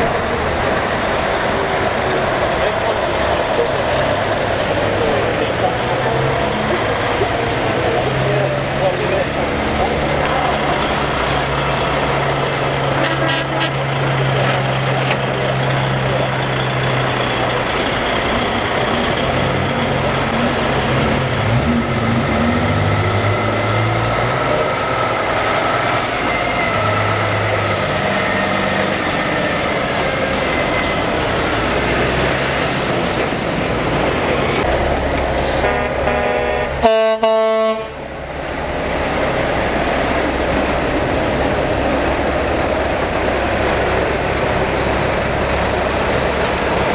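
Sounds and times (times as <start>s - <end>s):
trucks' diesel engines rolling past: 0.0s - 46.9s.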